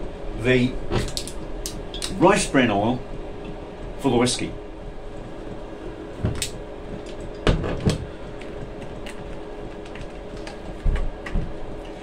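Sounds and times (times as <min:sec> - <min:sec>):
diesel heater humming: 0:00.0 - 0:12.0.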